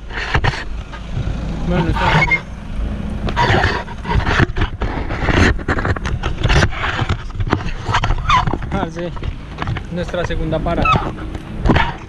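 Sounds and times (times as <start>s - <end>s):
camera rubbing against clothing: 0.0s - 2.5s, 3.2s - 12.0s.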